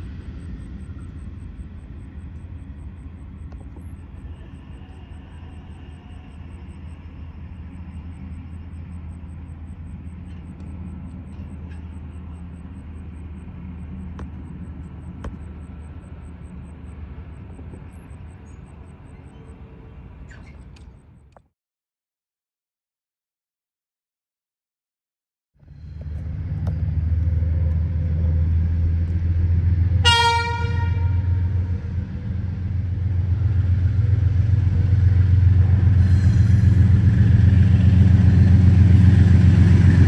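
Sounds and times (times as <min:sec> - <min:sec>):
vehicle rumble: 0:00.0 - 0:21.5, 0:25.6 - 0:40.0.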